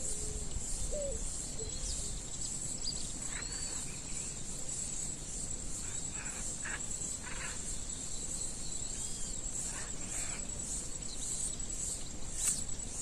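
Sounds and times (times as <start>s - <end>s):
insects chirring: 0.0s - 13.0s
short faint insect calls: 0.0s - 13.0s.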